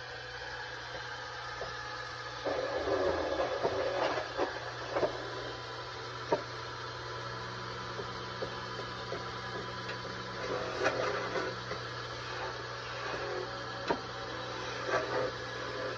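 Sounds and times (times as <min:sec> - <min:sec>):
wood lathe motor hum: 0:00.0 - 0:15.9.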